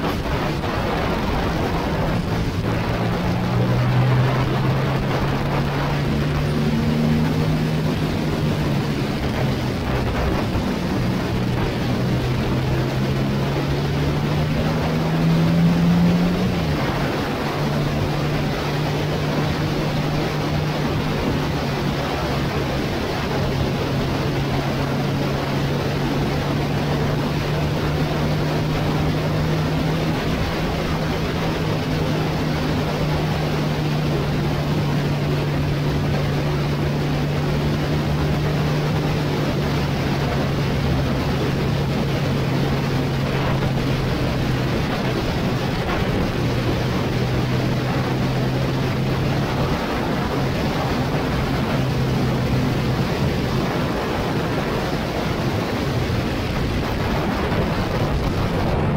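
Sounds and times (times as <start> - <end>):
motorcycle engine cruising: 0.0 - 58.9
wind and road noise: 0.0 - 58.9.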